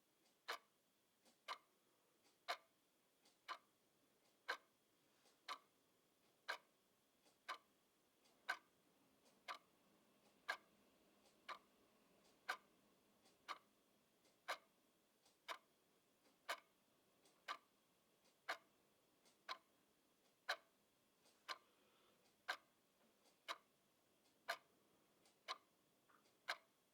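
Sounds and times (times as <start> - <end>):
clock ticking: 0.2 - 26.9.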